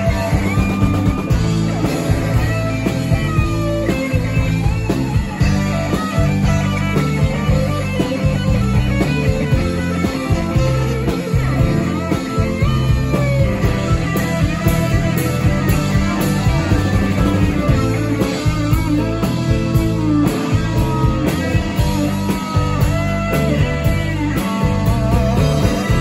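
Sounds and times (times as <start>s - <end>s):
bass guitar: 0.0s - 26.0s
electric guitar lead bending notes: 0.0s - 26.0s
steady drums: 0.0s - 26.0s.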